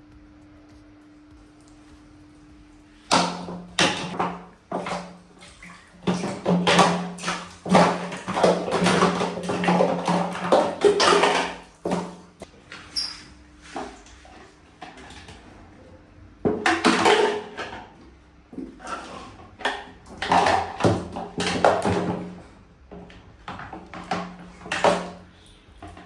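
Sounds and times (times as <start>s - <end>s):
water splashing in plastic basin: 3.0s - 15.5s, 16.4s - 26.0s.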